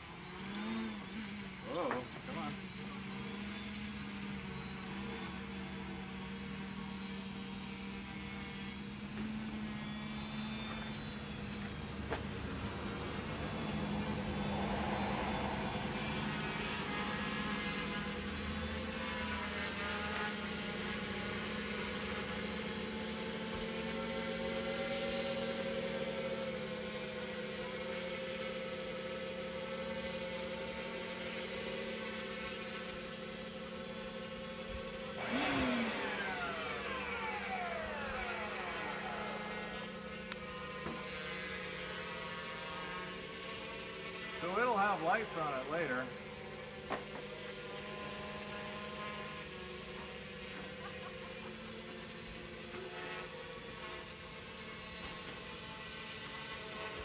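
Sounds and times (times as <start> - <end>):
quadcopter propeller whine: 0.0 - 57.0.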